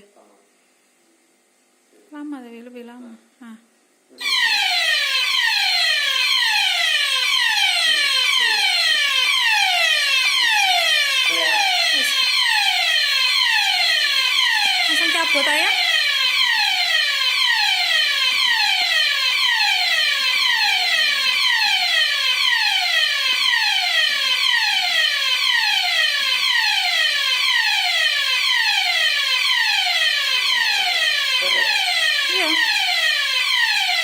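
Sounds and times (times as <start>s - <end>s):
fire alarm falling tone: 4.2s - 34.0s.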